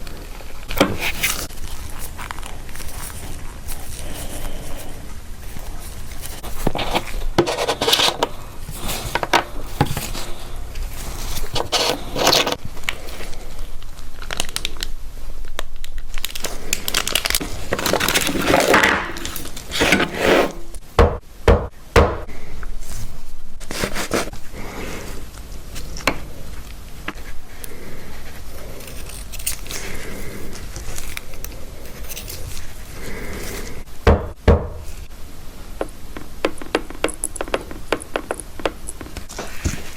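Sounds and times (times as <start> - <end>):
small tools scraping and rustling: 0.0 - 13.5, 16.4 - 20.8, 22.8 - 33.9, 36.6 - 39.9.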